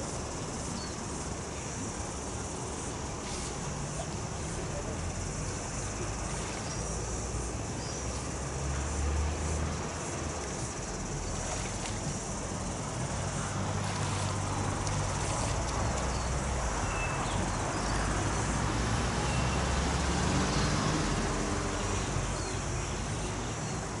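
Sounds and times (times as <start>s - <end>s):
distant traffic rumble: 0.0s - 24.0s
insects buzzing: 0.0s - 24.0s.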